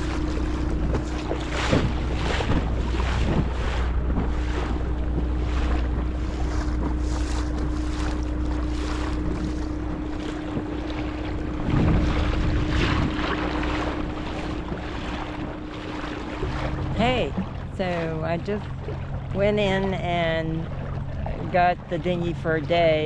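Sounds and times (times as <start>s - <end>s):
wind buffeting microphone: 0.0s - 22.8s
outboard motor running: 0.0s - 23.0s
water rushing past hull: 0.0s - 23.0s.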